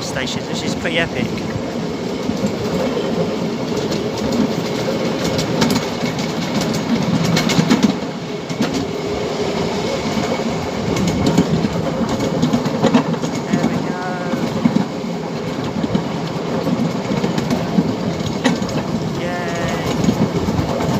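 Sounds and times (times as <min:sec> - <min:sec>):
miniature train rumbling: 0:00.0 - 0:20.9
wheels clicking over rail joints: 0:00.0 - 0:20.9.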